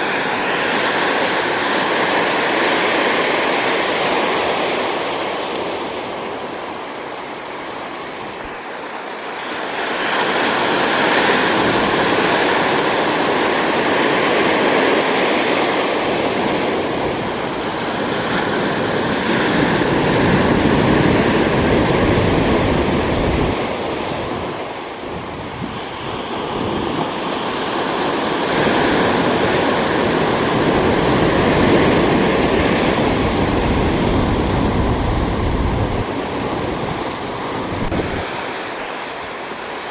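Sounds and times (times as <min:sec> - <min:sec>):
ocean surf washing in: 0:00.0 - 0:39.9.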